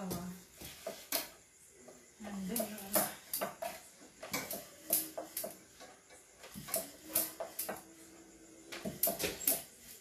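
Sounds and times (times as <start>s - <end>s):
utensils clinking on stove: 0.0s - 10.0s.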